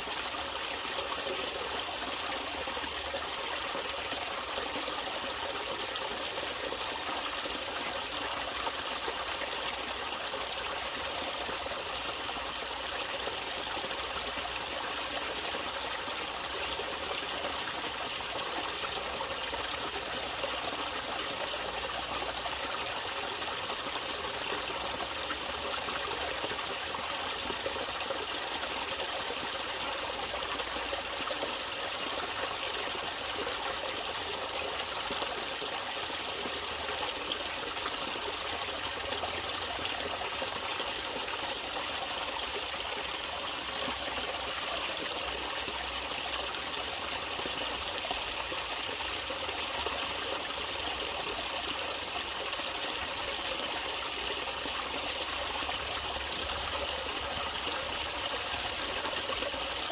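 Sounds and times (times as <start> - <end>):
stream water trickling: 0.0 - 59.9.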